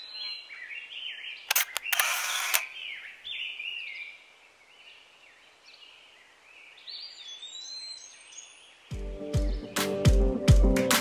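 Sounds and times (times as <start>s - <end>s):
birds chirping: 0.0s - 10.5s.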